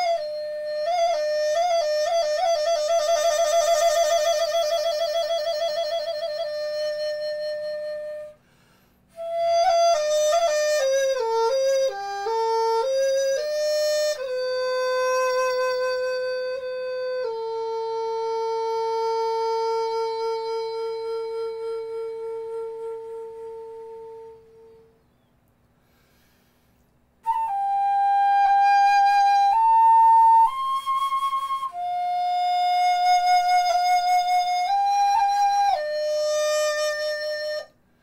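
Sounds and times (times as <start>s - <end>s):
solo wind instrument melody: 0.0s - 25.2s, 27.2s - 38.0s.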